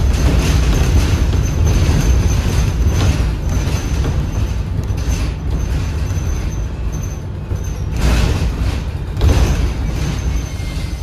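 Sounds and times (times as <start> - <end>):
bus drivetrain rumble: 0.0 - 11.0.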